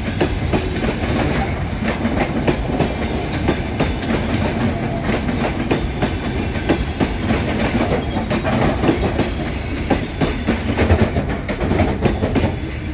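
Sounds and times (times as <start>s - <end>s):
train rumble: 0.0s - 12.9s
train wheels clicking over rails: 0.0s - 12.9s.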